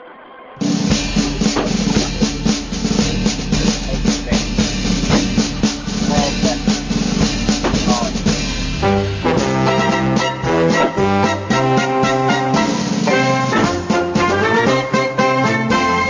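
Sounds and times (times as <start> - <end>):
music with fast drum beat: 0.6 - 16.0.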